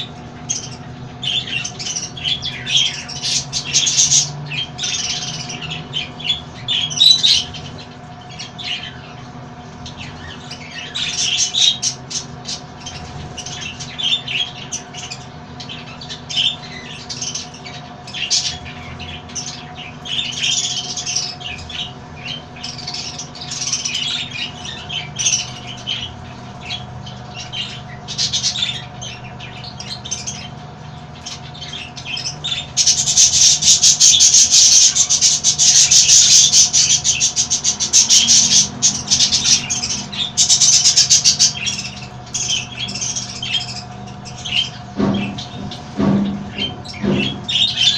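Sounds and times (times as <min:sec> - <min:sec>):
loud steady rasping noise: 0:00.0 - 0:47.9
parrots squawking and chirping: 0:00.0 - 0:47.9.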